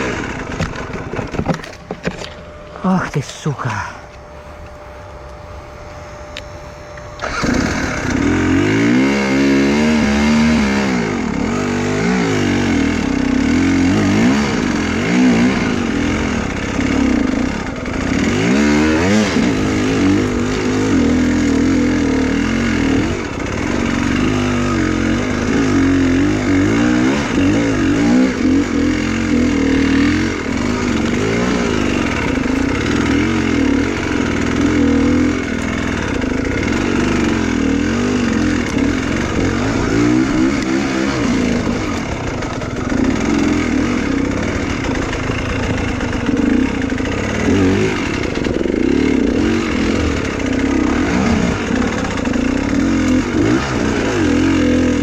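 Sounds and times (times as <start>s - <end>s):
motorcycle engine revving: 0.0s - 2.4s, 5.6s - 55.0s.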